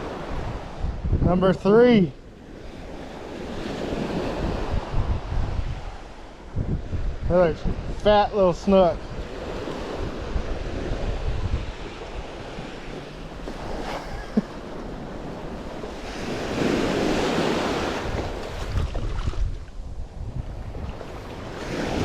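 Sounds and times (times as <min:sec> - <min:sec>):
wind buffeting microphone: 0:00.0 - 0:22.0
surf washing onto beach: 0:01.8 - 0:22.0.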